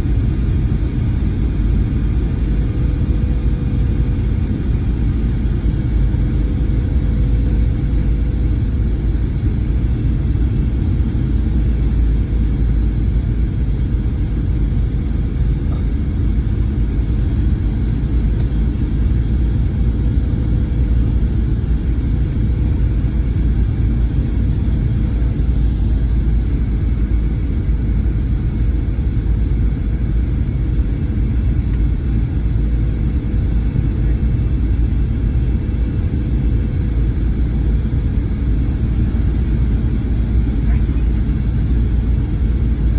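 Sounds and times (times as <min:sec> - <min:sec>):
airplane cabin engine roar: 0:00.0 - 0:42.9.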